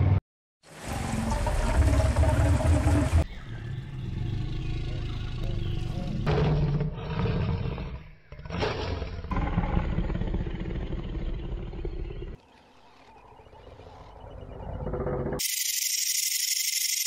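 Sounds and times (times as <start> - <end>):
lion growling and roaring: 0.8 - 15.4.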